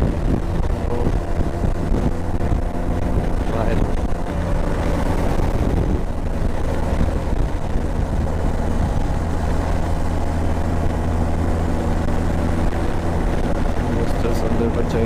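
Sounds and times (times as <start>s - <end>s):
motorcycle engine humming: 0.0s - 15.0s
wind rush on microphone: 0.0s - 15.0s.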